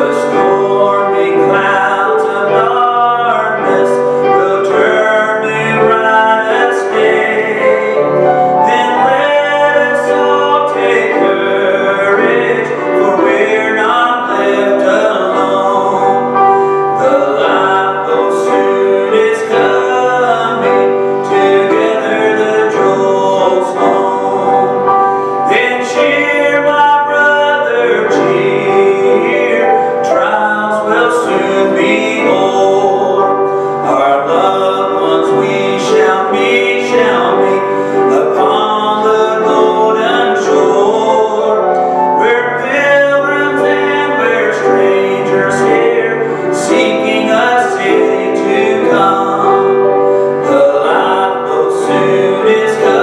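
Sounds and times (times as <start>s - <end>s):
grand piano accompaniment: 0.0s - 53.0s
man singing gospel: 0.0s - 53.0s.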